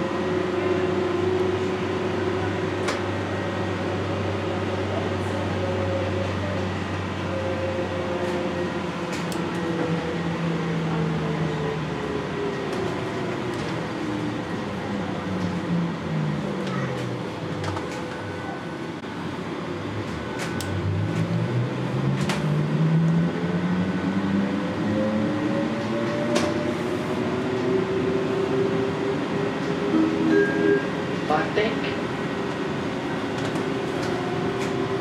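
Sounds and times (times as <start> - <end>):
trolleybus electric drive whining: 0.0 - 35.0.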